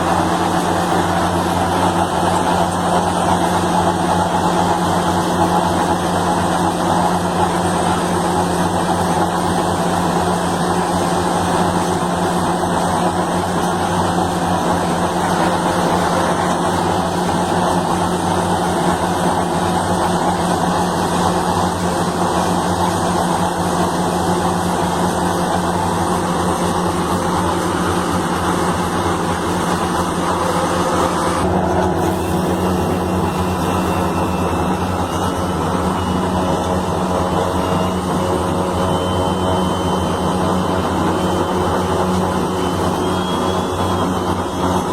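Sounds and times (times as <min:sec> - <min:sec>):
heavy machine engine running: 0:00.0 - 0:44.9.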